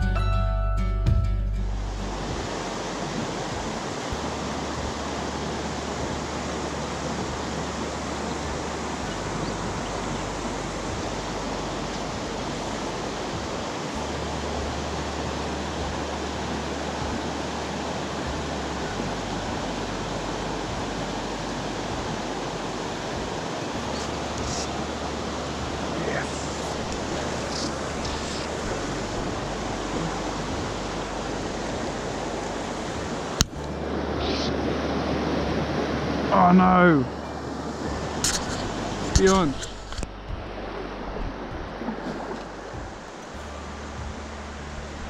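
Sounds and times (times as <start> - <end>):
creek rushing over logs: 1.8 - 45.0.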